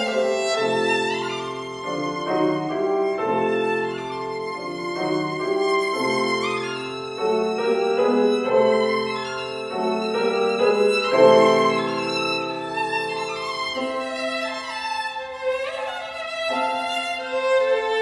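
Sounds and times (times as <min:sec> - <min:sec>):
grand piano chords: 0:00.0 - 0:18.0
violin playing held notes: 0:00.0 - 0:18.0.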